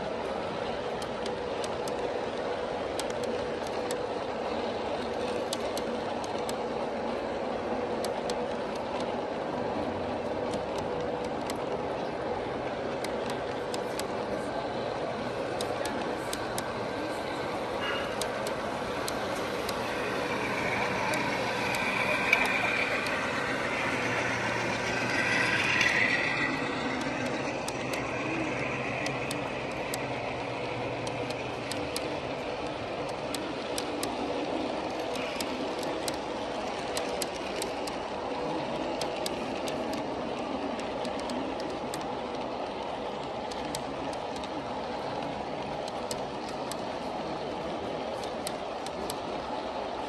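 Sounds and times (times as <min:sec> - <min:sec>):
sharp track clicks: 0:00.0 - 0:07.2, 0:07.8 - 0:50.0
locomotive motor hum: 0:00.0 - 0:50.0
model train wheels rumbling: 0:00.0 - 0:50.0.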